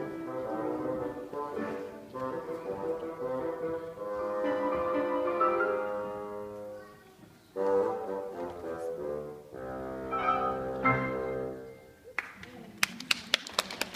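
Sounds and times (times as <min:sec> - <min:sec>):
bassoon and piano duet: 0:00.0 - 0:12.0.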